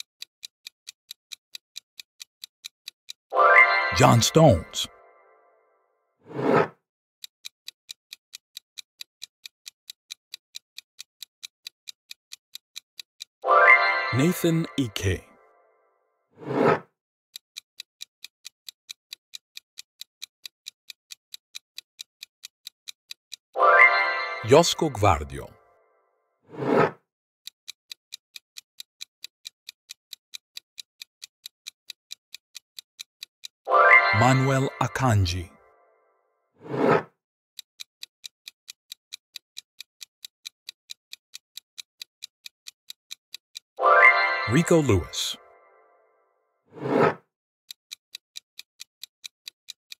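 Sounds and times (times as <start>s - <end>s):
clock-like timer ticking: 0.0s - 5.3s, 6.3s - 15.5s, 16.5s - 25.7s, 26.5s - 35.8s, 36.6s - 46.1s, 46.7s - 49.9s.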